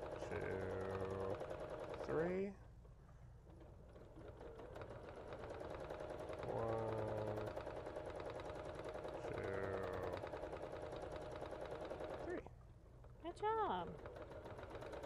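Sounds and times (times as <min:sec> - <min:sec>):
sewing machine needle clattering: 0:00.0 - 0:02.3, 0:03.5 - 0:12.4, 0:13.0 - 0:15.0
sewing machine motor whine: 0:00.0 - 0:02.4, 0:03.6 - 0:12.5, 0:13.4 - 0:15.0.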